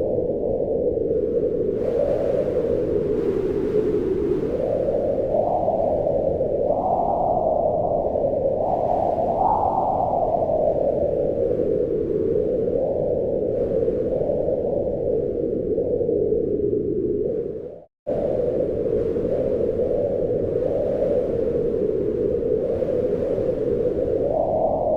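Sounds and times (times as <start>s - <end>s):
howling wind: 0.0s - 24.9s.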